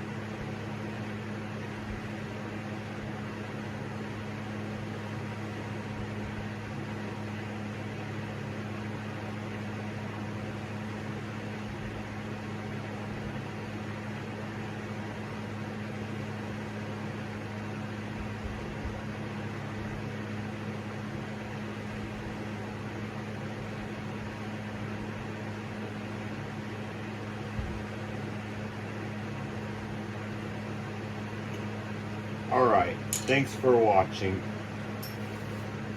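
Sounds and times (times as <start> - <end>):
electric fan whirring: 0.0 - 35.9.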